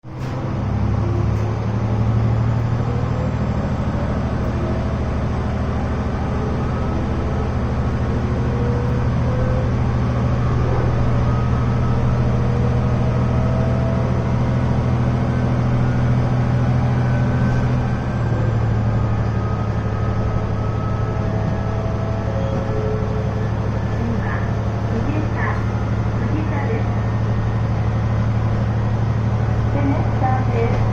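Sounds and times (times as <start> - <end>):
diesel railcar engine drone: 0.0 - 30.9.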